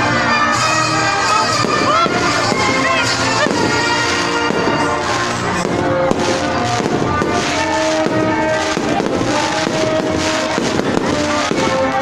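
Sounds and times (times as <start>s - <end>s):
fireworks bangs and crackles: 0.0s - 12.0s
music with long held notes: 0.0s - 12.0s.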